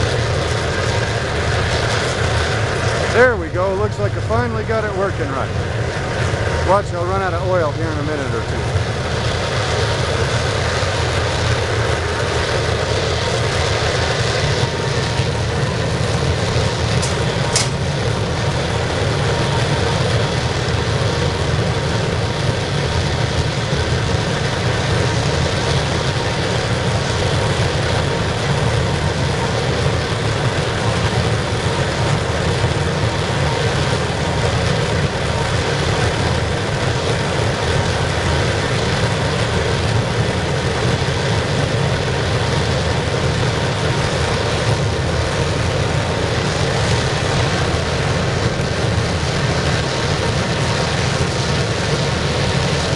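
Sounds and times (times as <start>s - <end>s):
oil burner roaring: 0.0s - 52.9s.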